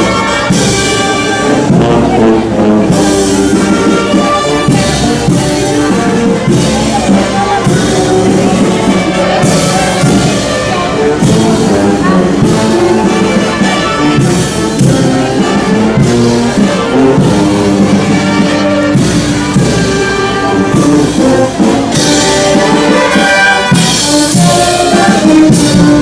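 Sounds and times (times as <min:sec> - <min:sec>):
brass band playing: 0:00.0 - 0:26.0.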